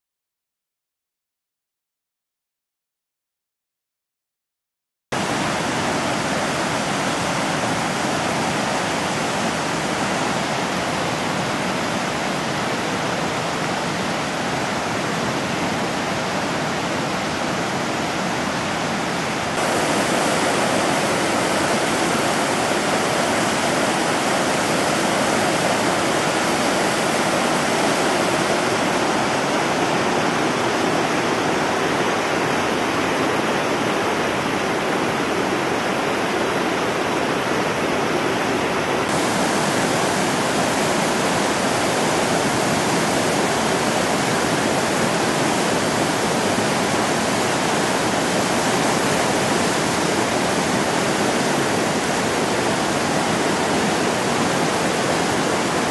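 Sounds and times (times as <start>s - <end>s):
water rushing over rocks: 5.2s - 55.9s.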